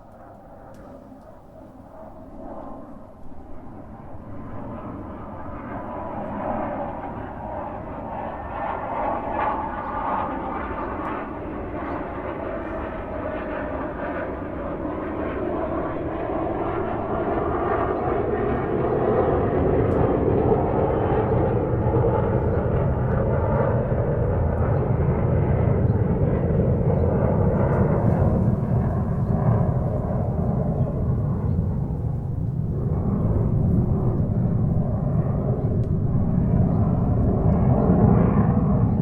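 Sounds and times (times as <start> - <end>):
airplane cabin engine rush: 4.1 - 39.0.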